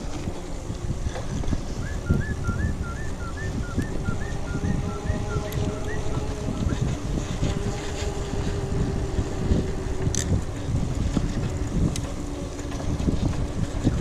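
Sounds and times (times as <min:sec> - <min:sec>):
bike rolling on dirt trail: 0:00.0 - 0:14.0
wind buffeting microphone: 0:00.0 - 0:14.0.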